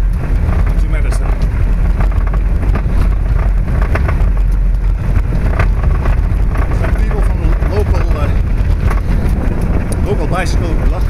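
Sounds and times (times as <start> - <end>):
tyres ticking on gravel: 0.0 - 11.0
vehicle rumble: 0.0 - 11.0.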